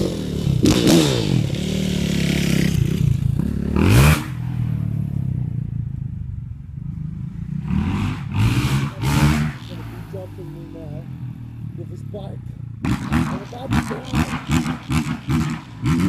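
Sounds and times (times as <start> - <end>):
dirt bike engine revving: 0.0 - 5.7, 6.8 - 16.0.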